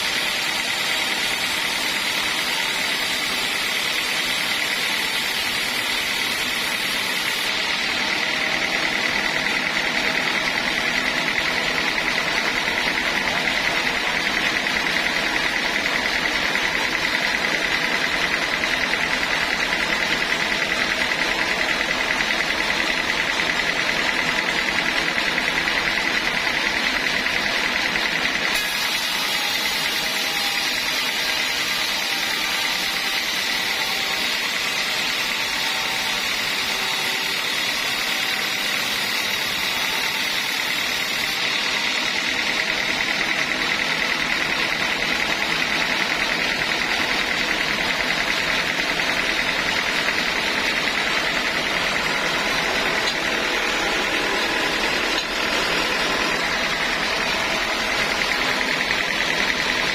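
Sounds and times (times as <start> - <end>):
sawmill machinery whine: 0.0 - 59.9.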